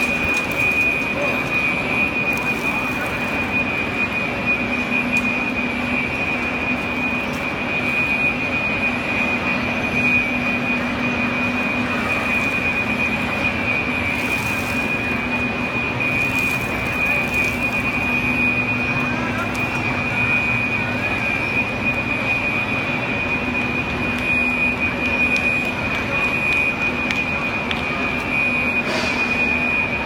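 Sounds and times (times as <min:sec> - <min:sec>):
continuous high-pitched tone: 0:00.0 - 0:30.0
loud machine noise: 0:00.0 - 0:30.0.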